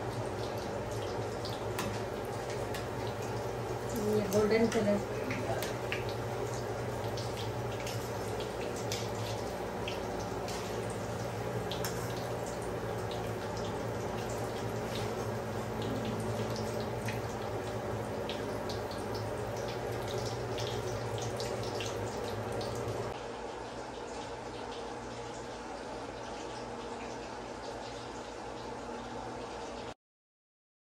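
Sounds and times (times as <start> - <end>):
deep-frying in hot oil: 0.0 - 30.0.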